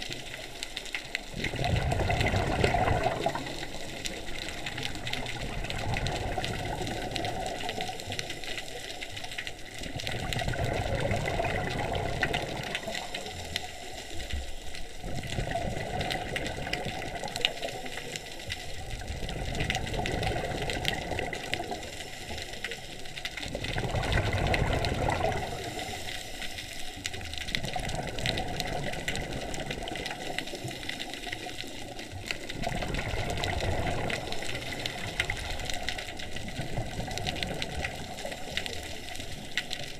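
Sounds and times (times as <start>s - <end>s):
exhaled bubbles: 0.0s - 39.9s.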